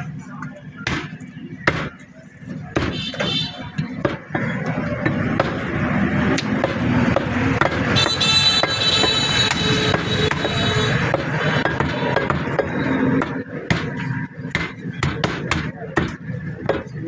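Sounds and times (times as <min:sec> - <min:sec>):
market chatter: 0:00.0 - 0:17.0
cleaver chopping meat and bone: 0:00.8 - 0:17.0.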